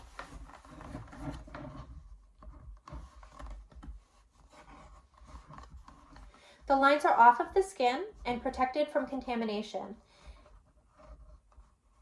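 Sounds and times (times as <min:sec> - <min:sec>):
fabric rubbing and rustling: 0:00.0 - 0:08.6, 0:10.1 - 0:12.0.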